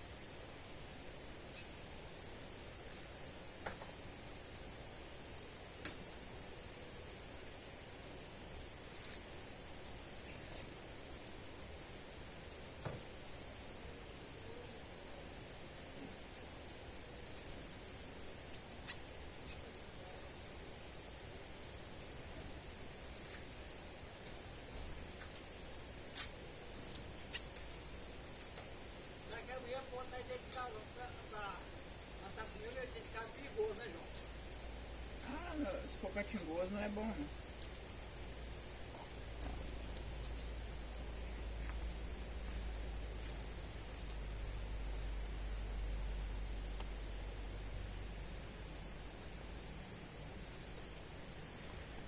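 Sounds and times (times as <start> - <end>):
small bird chirping: 0.0 - 11.3, 13.6 - 46.8
low background noise: 0.0 - 52.0
steady hiss: 0.0 - 52.0.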